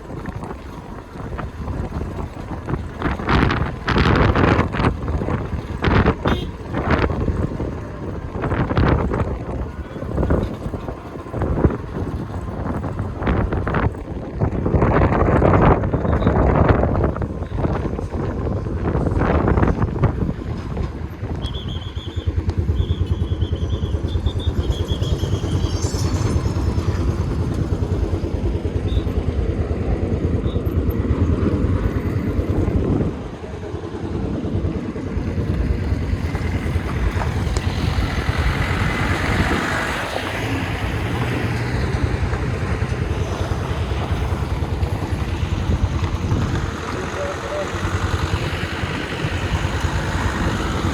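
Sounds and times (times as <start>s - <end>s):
vehicle engine and road rumble: 0.0s - 50.9s.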